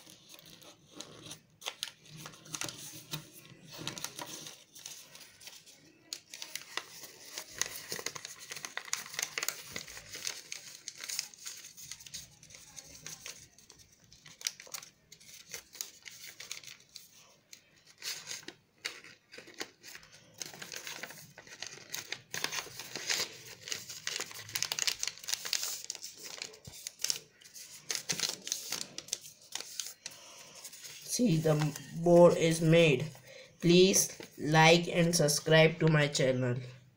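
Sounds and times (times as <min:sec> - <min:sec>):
paper rustling and crinkling: 0:00.0 - 0:35.1.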